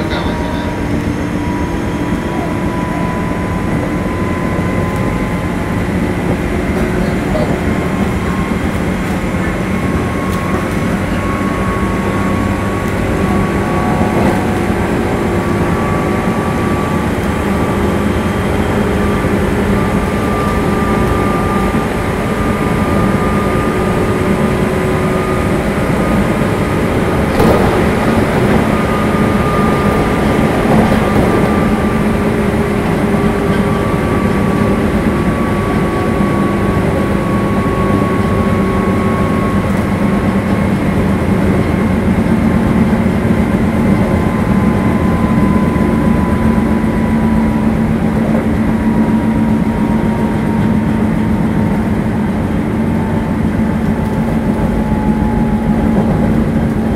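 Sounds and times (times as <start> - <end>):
electric train motor whining: 0.0 - 56.9
train running gear rumble: 0.0 - 56.9.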